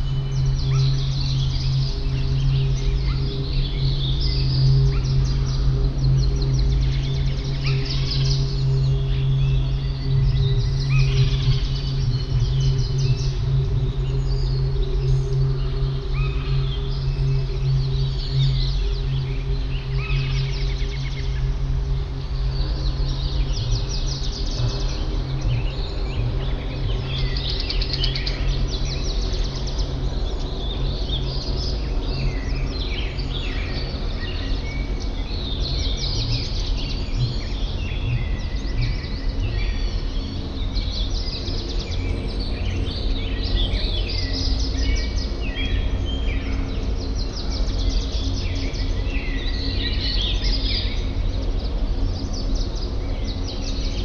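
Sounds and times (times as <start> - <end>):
songbirds chirping and trilling: 0.0 - 54.0
steady low hum: 0.0 - 54.0.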